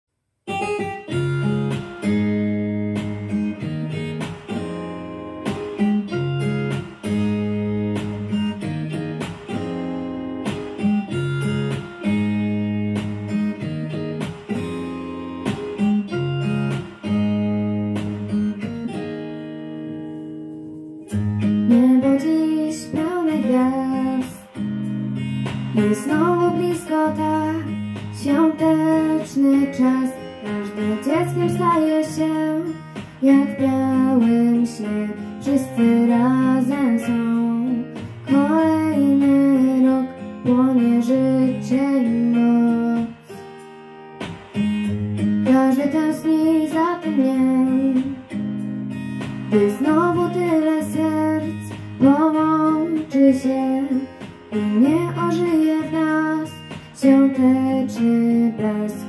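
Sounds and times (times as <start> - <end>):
acoustic guitar picking chords: 0.5 - 59.0.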